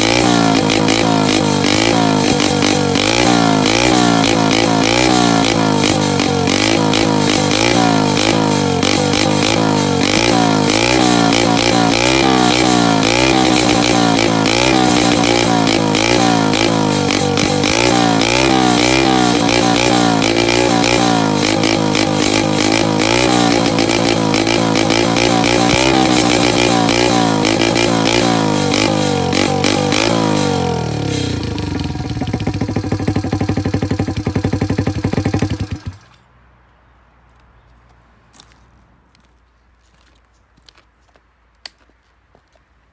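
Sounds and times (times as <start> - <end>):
small engine revving and idling: 0.0 - 36.2.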